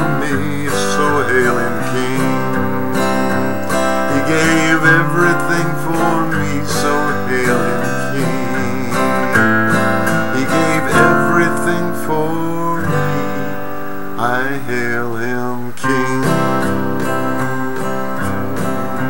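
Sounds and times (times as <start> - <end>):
man's wordless wavering vocals: 0.0 - 18.7
acoustic guitar strumming chords: 0.0 - 19.0.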